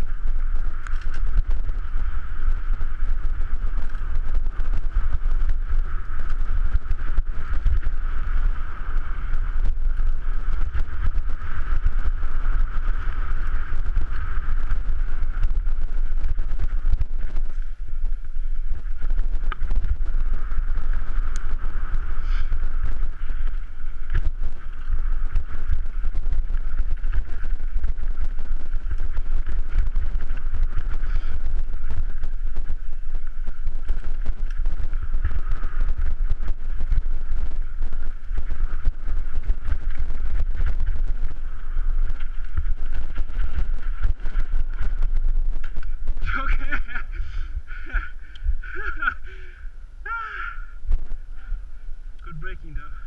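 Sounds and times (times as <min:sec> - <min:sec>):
bike rattling and knocking: 0:00.0 - 0:48.1
wind rumbling on microphone: 0:00.0 - 0:53.0.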